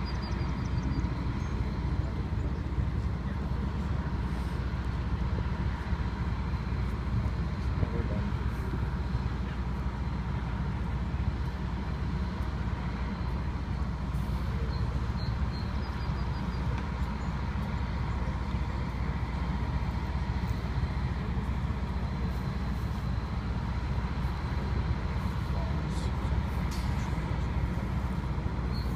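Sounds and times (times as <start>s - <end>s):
faint constant whine: 0.0s - 28.9s
low outdoor rumble: 0.0s - 28.9s.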